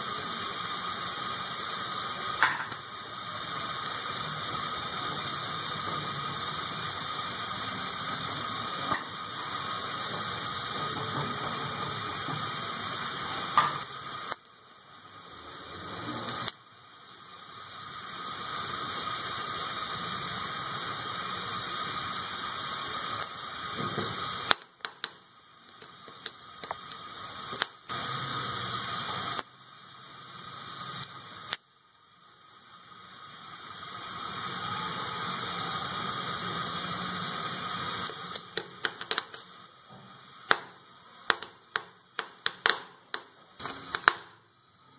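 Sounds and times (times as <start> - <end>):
gas burner hissing: 0.0 - 44.9.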